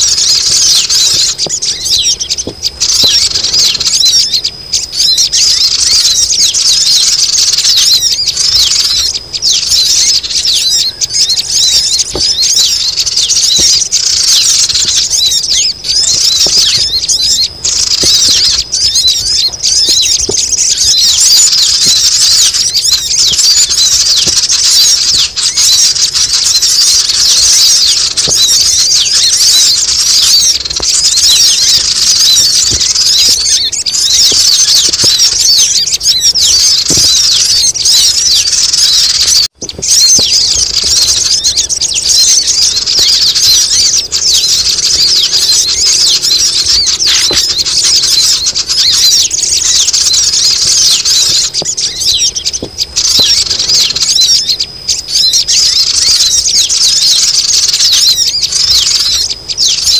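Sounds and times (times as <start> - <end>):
small birds chattering: 0.0 - 59.9.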